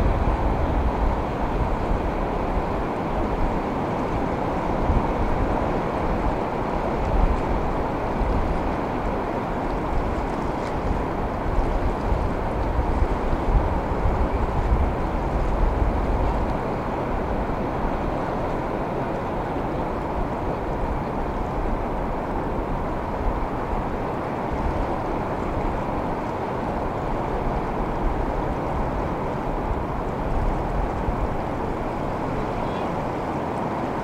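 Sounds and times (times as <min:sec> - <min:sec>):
ocean waves washing: 0:00.0 - 0:34.0
wind rumble on microphone: 0:00.0 - 0:34.0.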